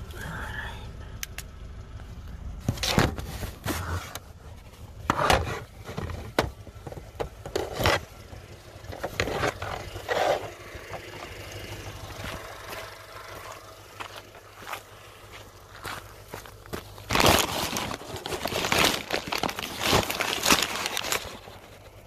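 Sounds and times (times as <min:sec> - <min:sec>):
handheld camera scraping and rustling: 0:02.6 - 0:11.4, 0:12.2 - 0:22.0.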